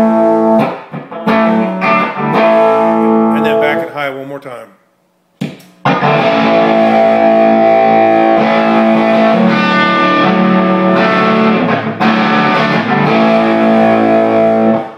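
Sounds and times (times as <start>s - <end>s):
distorted electric guitar chords: 0.0s - 3.9s, 5.8s - 14.9s.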